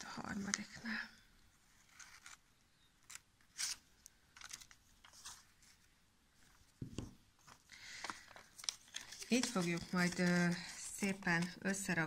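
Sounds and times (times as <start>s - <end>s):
paper rustling: 1.6s - 12.0s.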